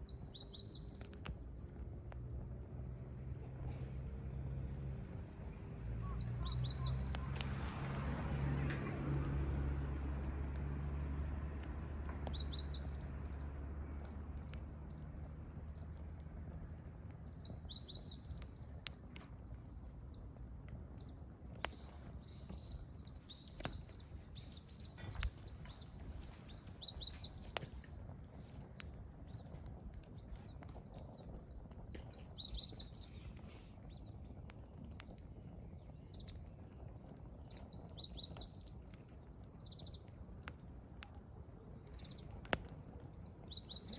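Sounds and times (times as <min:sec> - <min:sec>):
burning firewood crackling: 0:00.0 - 0:43.9
songbird singing: 0:00.0 - 0:43.9.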